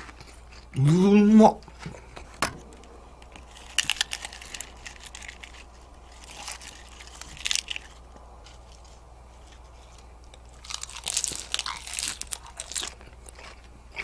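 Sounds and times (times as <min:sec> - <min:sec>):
lettuce leaf crunching: 0:00.0 - 0:14.0.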